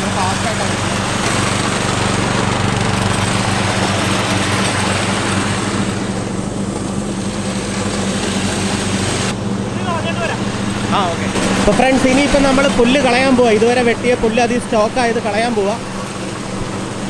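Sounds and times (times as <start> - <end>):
ride-on mower engine running: 0.0 - 17.0.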